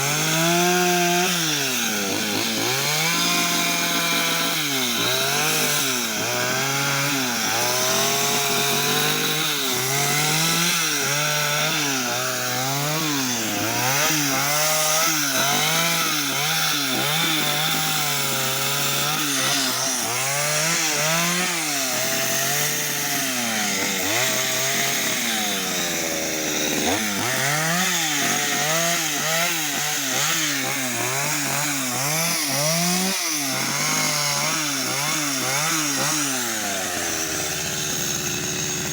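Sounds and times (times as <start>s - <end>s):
chainsaw revving cutting wood: 0.0s - 38.9s.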